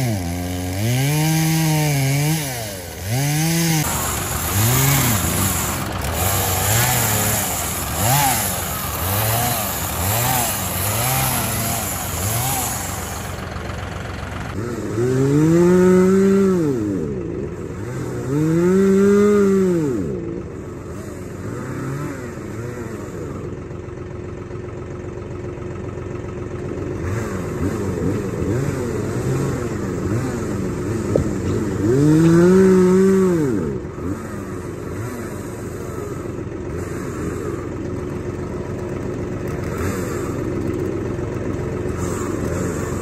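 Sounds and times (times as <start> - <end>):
chainsaw engine revving: 0.0 - 24.1, 24.9 - 43.0.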